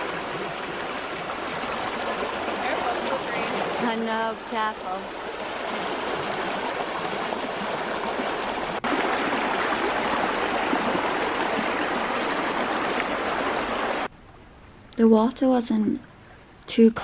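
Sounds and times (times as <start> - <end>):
stream rushing water: 0.0 - 14.1.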